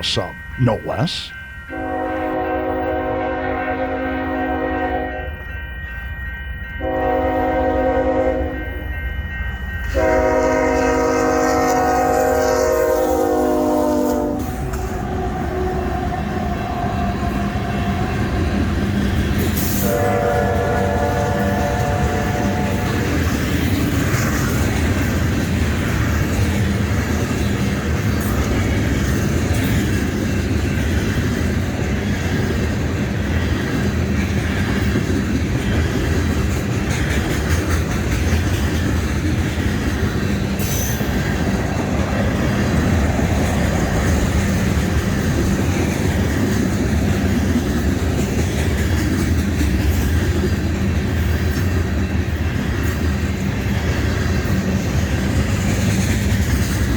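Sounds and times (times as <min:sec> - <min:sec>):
train wheels rumbling on rails: 0:02.3 - 0:56.9.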